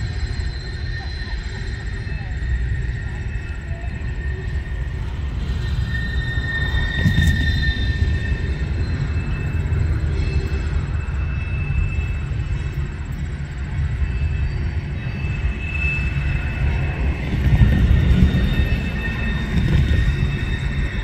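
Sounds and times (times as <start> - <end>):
diesel locomotive rumbling: 0.0 - 21.0
wheels squealing on rail: 0.0 - 21.0.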